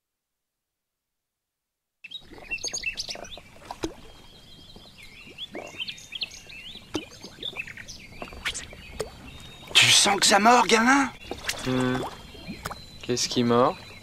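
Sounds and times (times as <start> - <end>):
birds chirping: 2.0 - 14.0
small water plops: 2.0 - 14.0.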